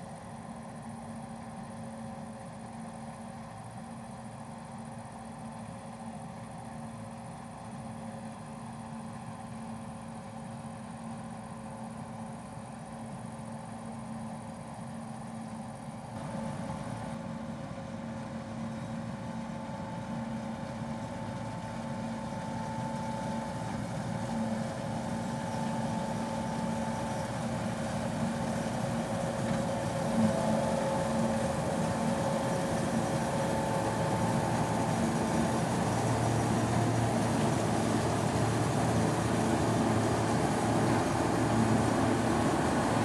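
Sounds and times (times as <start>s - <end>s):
combine harvester running: 0.0s - 43.0s.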